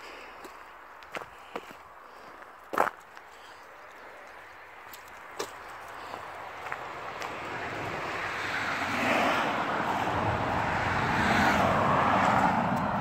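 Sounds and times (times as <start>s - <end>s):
vehicle passing on road: 0.7s - 13.0s.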